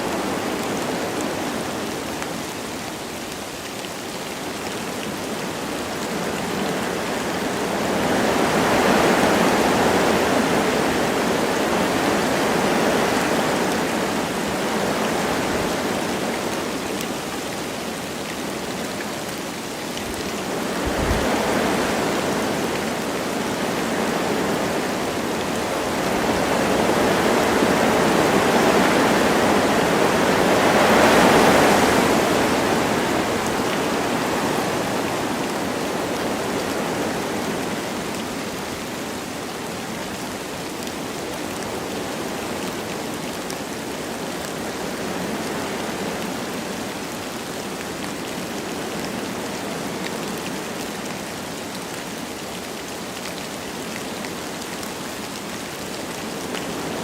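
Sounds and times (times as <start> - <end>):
light rain falling: 0.0 - 57.0
wind through trees: 0.0 - 57.0.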